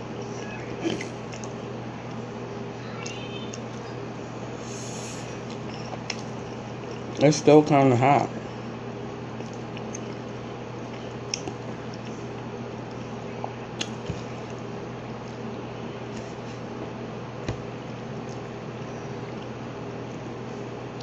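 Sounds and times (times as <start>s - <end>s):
steady low hum: 0.0s - 21.0s
chewing and wet mouth sounds: 0.2s - 2.2s, 2.9s - 4.0s, 4.8s - 7.8s, 8.4s - 15.5s, 16.1s - 20.3s.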